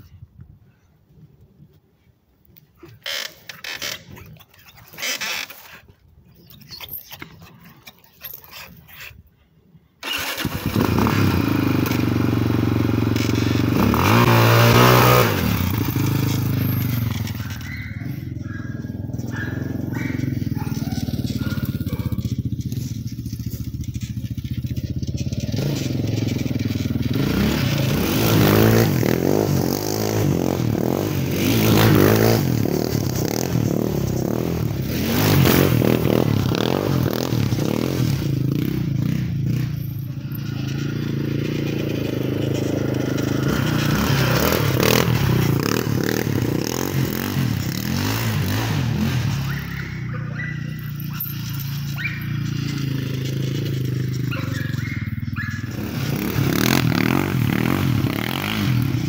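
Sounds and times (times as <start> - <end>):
atv engine revving: 2.8 - 9.2, 10.0 - 59.0.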